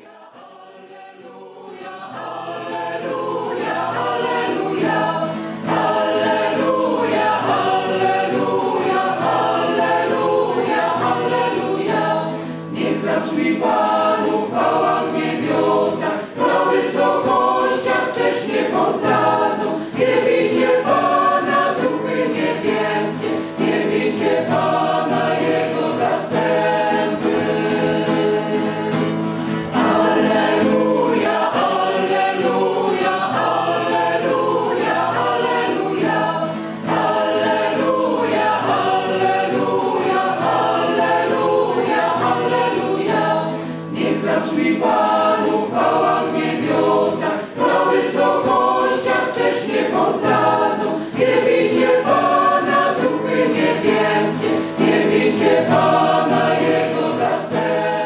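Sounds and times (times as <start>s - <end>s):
choir singing with accompaniment: 0.0s - 58.0s.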